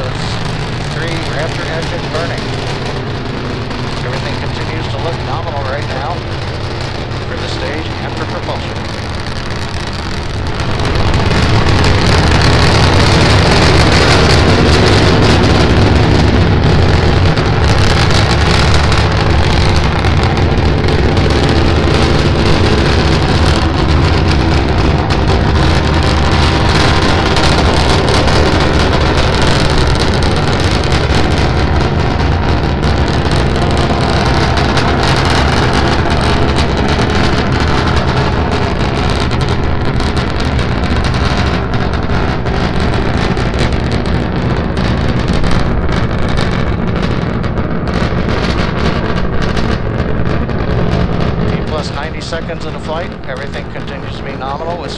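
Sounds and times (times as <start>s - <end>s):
rocket engines roaring: 0.0s - 54.9s.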